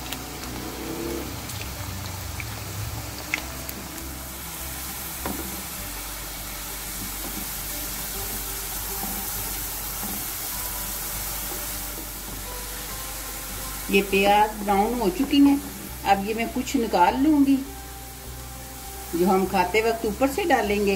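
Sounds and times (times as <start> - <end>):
onions sizzling in hot oil: 0.0 - 20.9.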